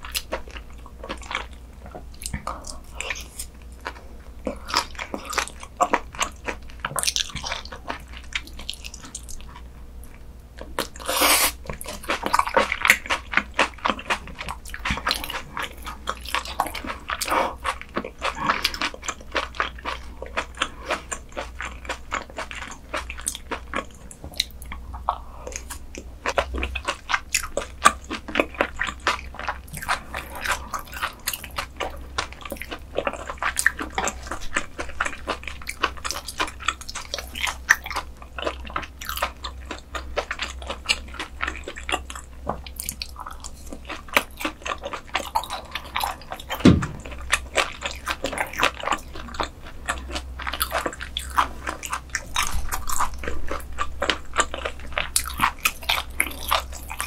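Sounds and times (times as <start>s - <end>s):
chewing and crunching: 0.0s - 57.0s.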